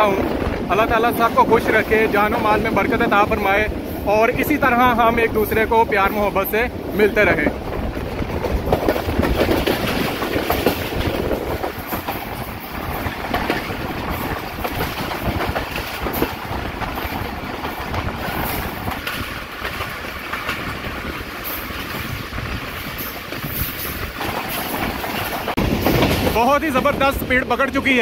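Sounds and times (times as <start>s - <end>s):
train rumbling: 0.0s - 28.0s
wheels clattering over rail joints: 0.0s - 28.0s.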